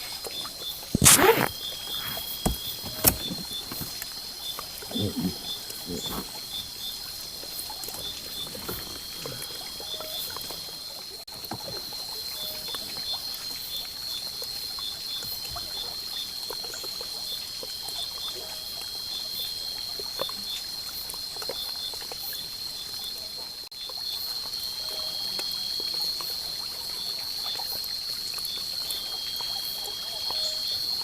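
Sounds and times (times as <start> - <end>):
faint trickling water: 0.0 - 31.0.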